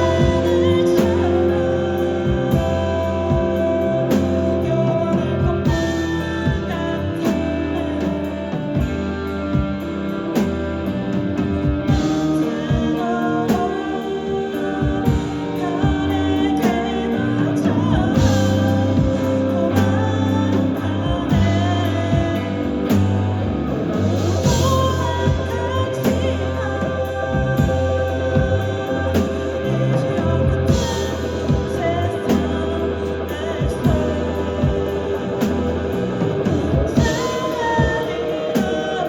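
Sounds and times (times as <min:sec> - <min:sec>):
live band music: 0:00.0 - 0:39.0
person singing: 0:00.0 - 0:39.0.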